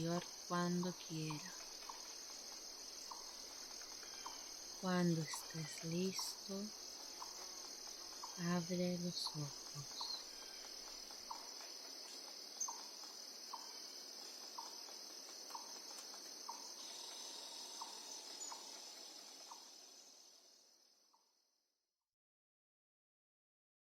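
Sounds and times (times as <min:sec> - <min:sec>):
crickets trilling: 0:00.0 - 0:21.3.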